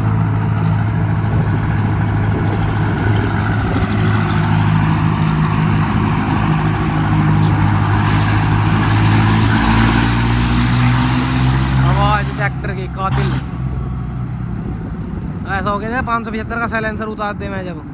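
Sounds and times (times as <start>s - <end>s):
tractor diesel engine at full throttle: 0.0s - 17.9s.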